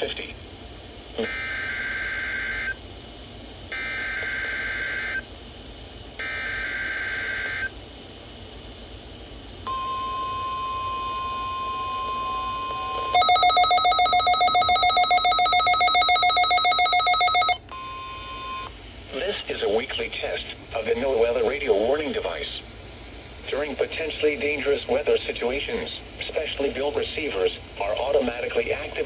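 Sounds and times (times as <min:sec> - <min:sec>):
rapidly pulsing alarm tone: 0:01.2 - 0:05.3, 0:06.2 - 0:07.7, 0:09.6 - 0:29.0.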